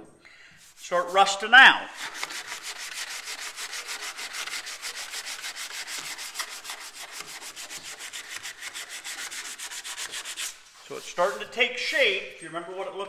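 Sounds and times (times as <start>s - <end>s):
sandpaper rubbing fiberglass: 0.6s - 12.0s.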